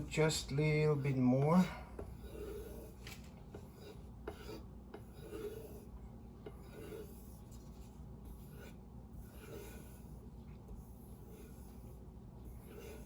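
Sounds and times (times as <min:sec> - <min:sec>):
knife rubbing on a strop: 0:01.0 - 0:05.9, 0:06.5 - 0:13.0.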